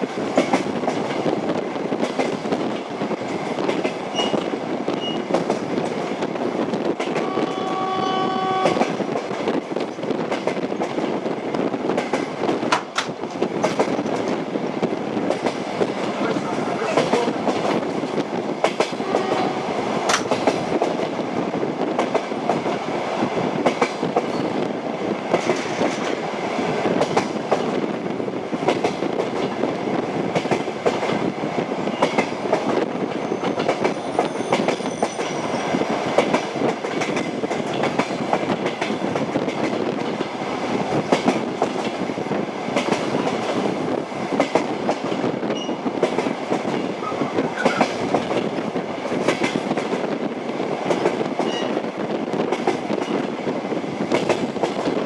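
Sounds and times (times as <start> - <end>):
train running rumble: 0.0 - 55.0.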